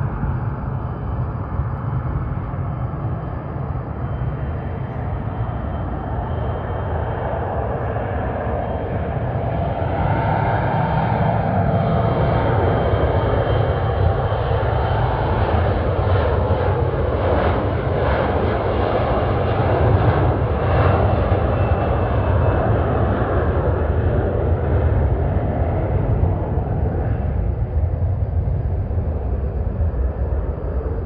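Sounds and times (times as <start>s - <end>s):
jet engines rumbling at takeoff: 0.0s - 31.0s.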